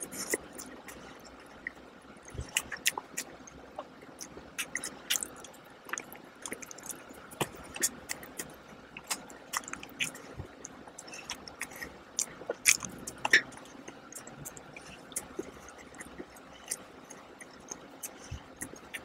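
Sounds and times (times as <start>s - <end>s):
chewing with mouth clicks: 0.0s - 19.0s.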